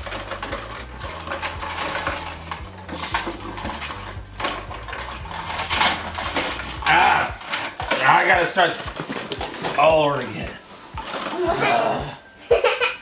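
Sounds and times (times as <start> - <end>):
hard objects clattering and clinking: 0.0 - 11.8.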